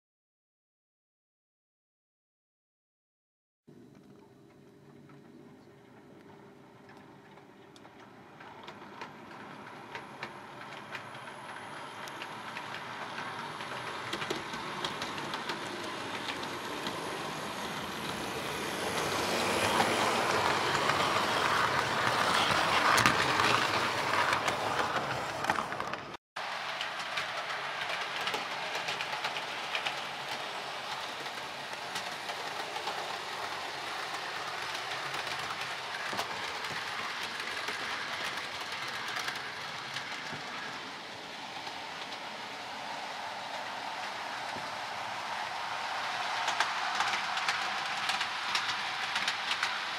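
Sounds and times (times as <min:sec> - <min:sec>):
model train rumbling whirr: 0:06.9 - 0:49.9.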